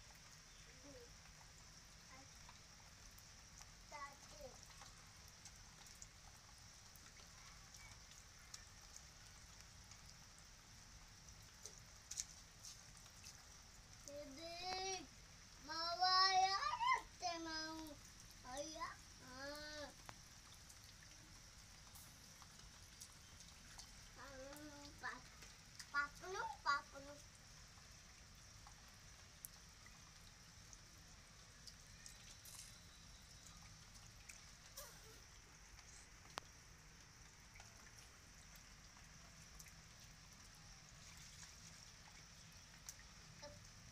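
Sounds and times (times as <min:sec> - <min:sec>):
dripping taps: 0:00.0 - 0:15.1, 0:16.0 - 0:43.9
light rain hiss: 0:00.0 - 0:43.9
raindrops ticking: 0:00.0 - 0:43.9.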